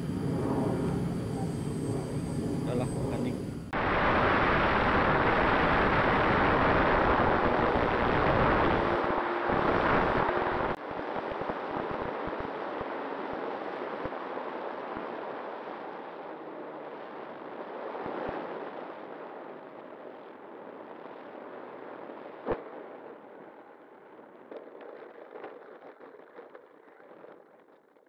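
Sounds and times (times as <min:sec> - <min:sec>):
wind rushing over camera: 0:00.0 - 0:28.0.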